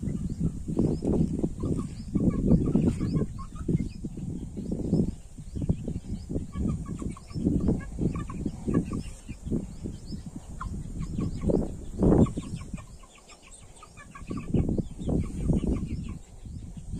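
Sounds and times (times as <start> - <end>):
chicks peeping and clucking: 0.0 - 16.9.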